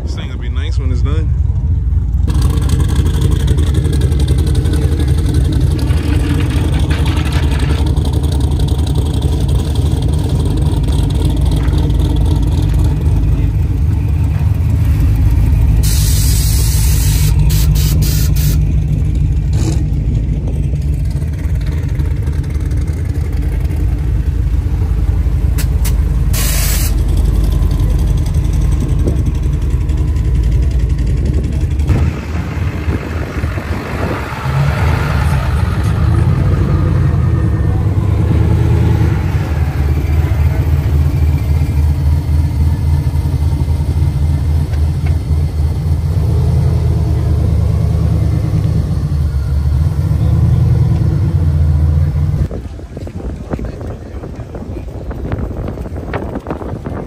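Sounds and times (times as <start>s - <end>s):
truck engines rumbling: 0.0s - 57.0s.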